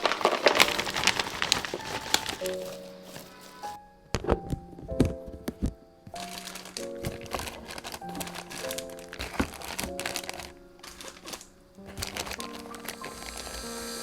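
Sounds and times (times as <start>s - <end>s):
gentle background music: 0.0s - 14.0s
packaging crinkling: 0.0s - 14.0s.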